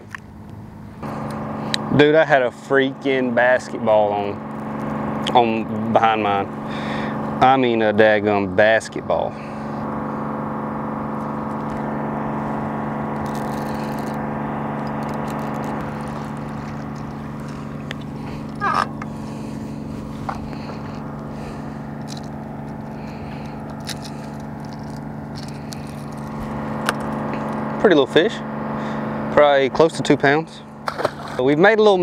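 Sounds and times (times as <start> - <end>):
electric trolling motor humming: 0.0 - 32.0.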